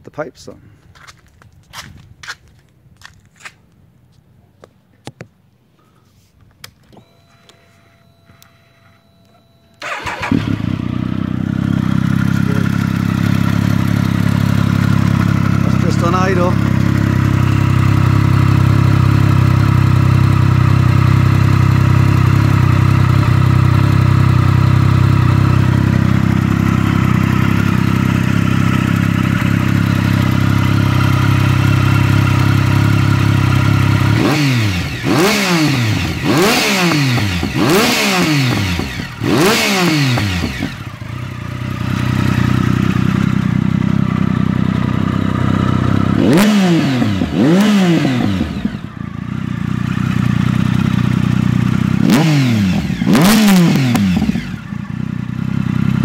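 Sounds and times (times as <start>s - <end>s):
motorcycle engine idling and revving: 9.8s - 56.0s.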